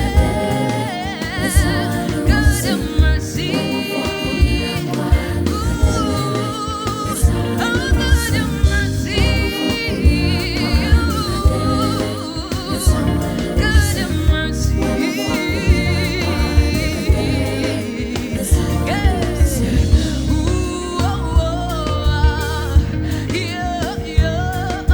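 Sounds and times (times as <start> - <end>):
band playing steady beat: 0.0 - 24.9
person singing with vibrato: 0.0 - 24.9.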